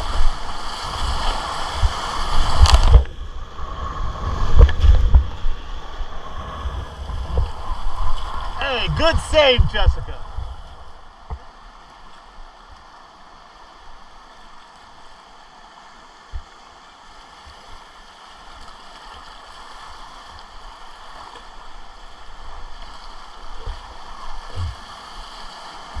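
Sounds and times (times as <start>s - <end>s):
whitewater rushing: 0.0s - 26.0s.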